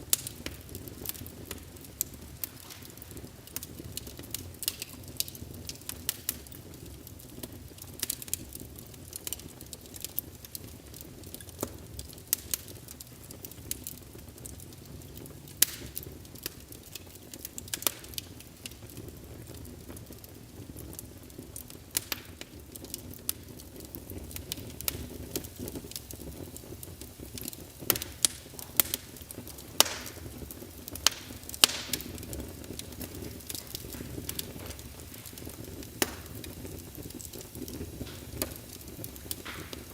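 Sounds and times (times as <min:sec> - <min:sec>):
fire crackling and popping: 0:00.0 - 0:39.9
low rumble of flame: 0:00.0 - 0:39.9.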